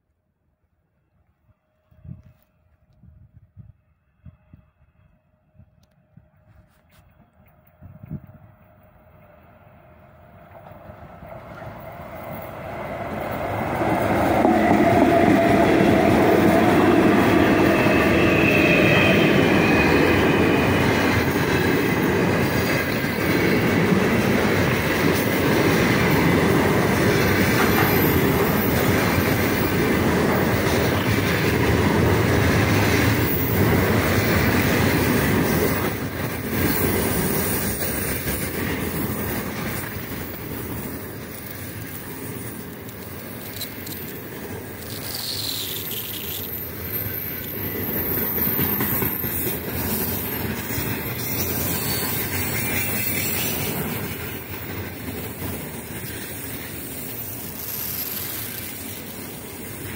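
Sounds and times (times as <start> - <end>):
freight train passing: 3.7 - 59.9
wheels rumbling on rails: 6.1 - 59.9.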